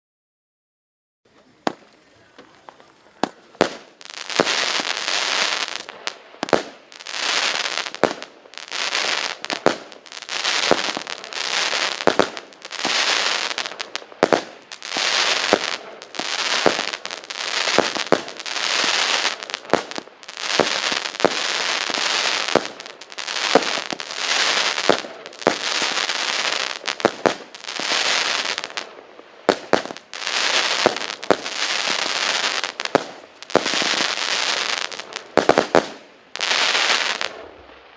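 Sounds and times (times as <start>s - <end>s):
hissing crackling firework bursts: 1.5s - 37.9s.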